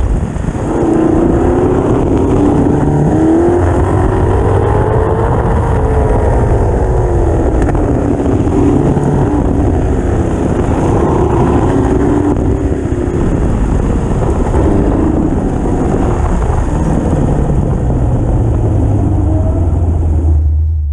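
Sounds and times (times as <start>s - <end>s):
race car engine revving: 0.0s - 20.9s.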